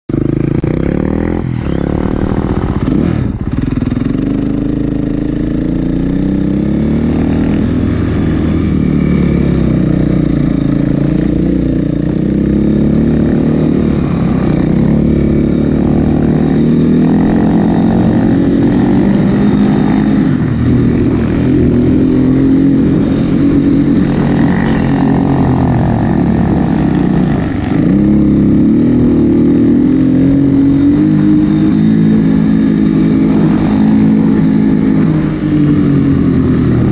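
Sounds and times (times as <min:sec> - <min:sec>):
dirt bike engine revving: 0:00.1 - 0:36.9.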